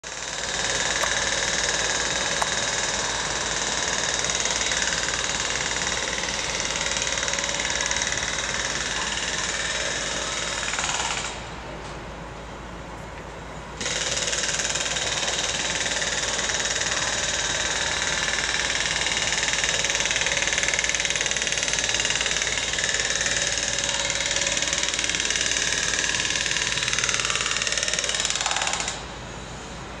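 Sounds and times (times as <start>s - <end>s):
hammer drill hammering: 0.0s - 11.4s, 13.8s - 29.0s.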